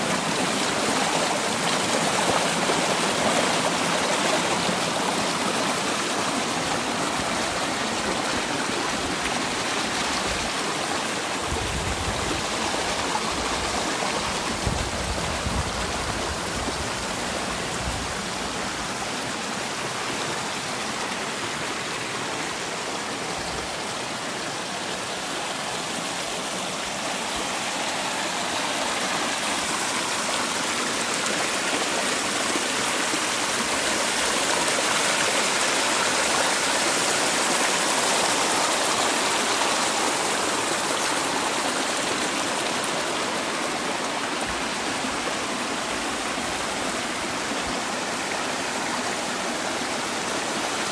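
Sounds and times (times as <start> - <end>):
stream water rushing over rocks: 0.0 - 50.9.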